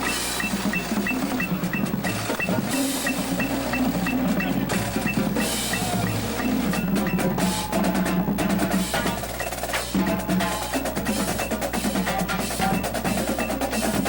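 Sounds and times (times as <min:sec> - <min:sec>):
mallet keyboard notes: 0:00.0 - 0:14.0
snare drum strokes and rolls: 0:00.0 - 0:14.0.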